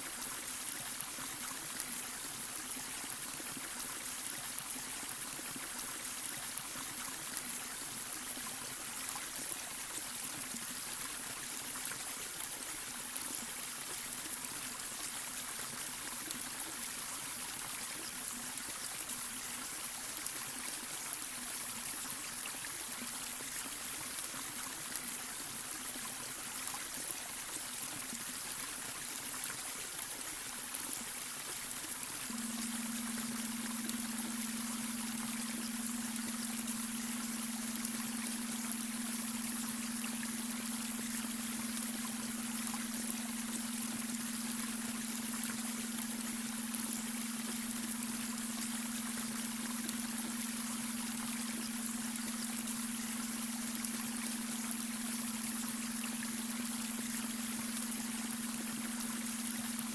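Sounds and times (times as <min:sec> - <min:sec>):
water running over stones: 0:00.0 - 0:59.9.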